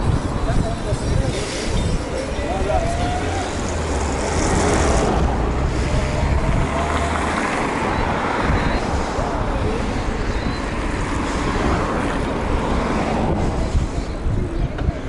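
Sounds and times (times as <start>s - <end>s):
road and tyre noise: 0.0s - 15.0s
wind rushing on microphone: 0.0s - 15.0s.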